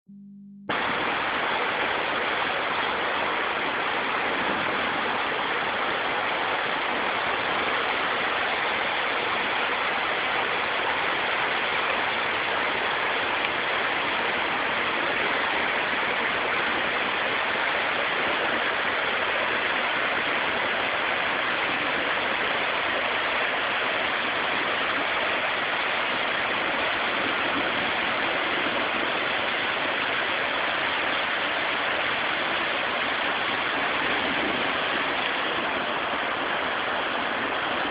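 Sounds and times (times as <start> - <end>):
creek water rushing: 0.7 - 37.9.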